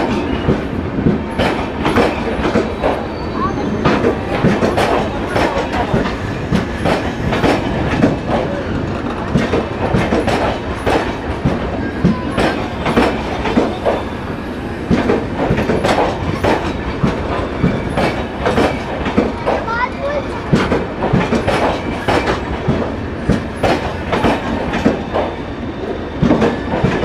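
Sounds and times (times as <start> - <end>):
train wheels clattering over rail joints: 0.0 - 14.1, 14.8 - 27.0
train rumble and rattle: 0.0 - 27.0.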